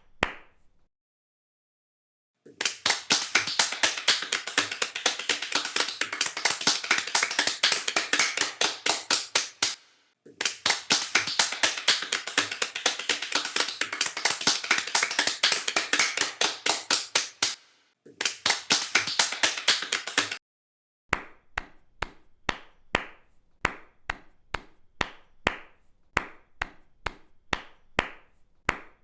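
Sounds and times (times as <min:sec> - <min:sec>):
hands clapping quickly: 0:00.0 - 0:00.7, 0:02.5 - 0:20.4, 0:21.1 - 0:29.0.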